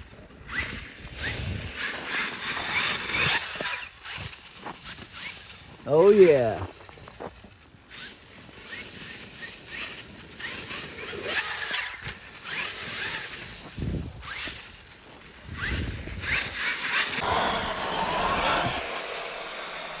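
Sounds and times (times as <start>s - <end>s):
rc truck motor whining: 0.0s - 20.0s.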